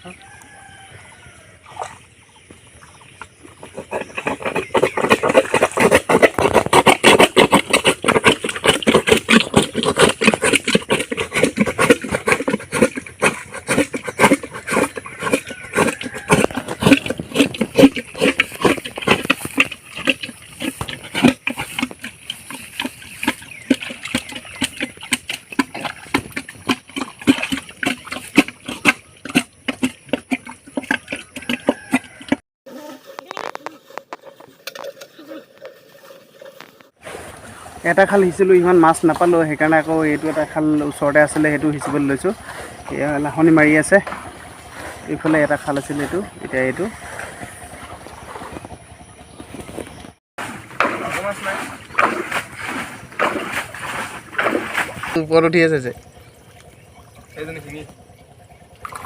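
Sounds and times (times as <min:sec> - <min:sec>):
water splashing: 0:00.0 - 0:59.0.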